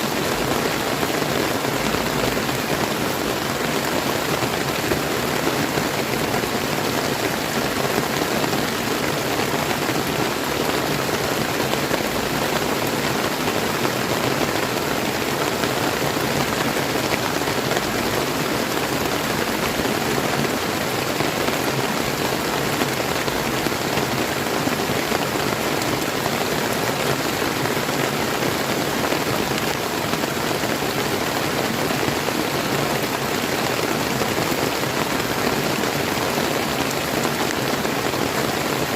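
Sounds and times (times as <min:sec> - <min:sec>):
flowing river: 0:00.0 - 0:38.9
steady rain falling: 0:00.0 - 0:38.9.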